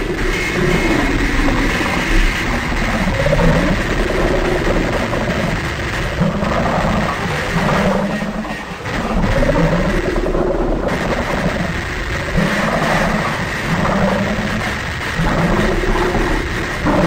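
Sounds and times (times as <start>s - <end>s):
harsh noise music: 0.0s - 17.0s
low rumbling wavering tones: 0.0s - 17.0s.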